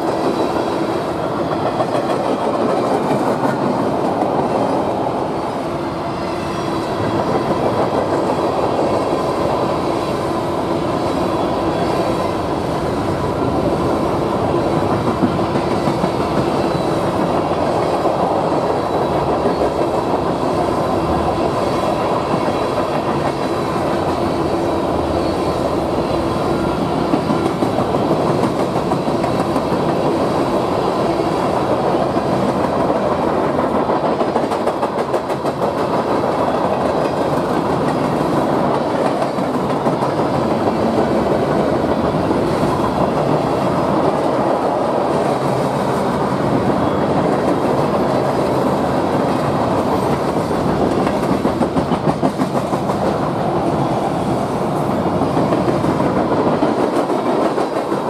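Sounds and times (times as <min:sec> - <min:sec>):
freight train wheels rolling: 0:00.0 - 0:58.0.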